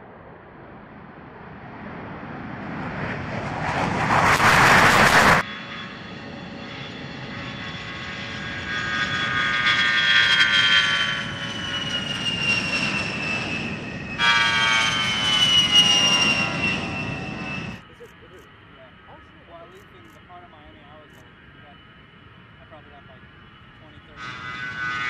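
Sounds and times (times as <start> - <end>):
jet aircraft rolling past: 0.0 - 25.0.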